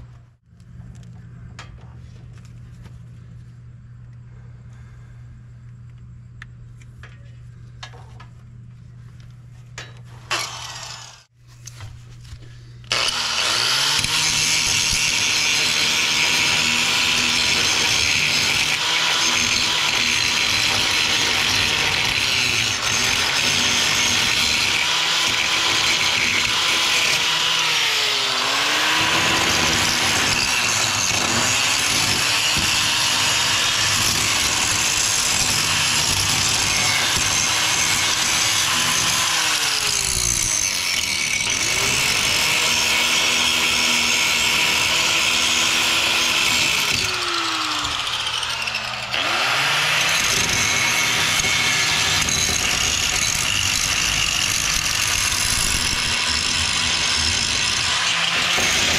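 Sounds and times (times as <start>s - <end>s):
angle grinder grinding steel: 9.8s - 11.4s, 12.8s - 58.9s.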